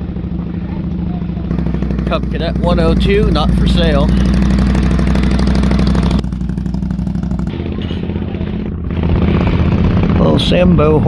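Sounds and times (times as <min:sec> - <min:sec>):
motor engine running: 0:01.5 - 0:10.8.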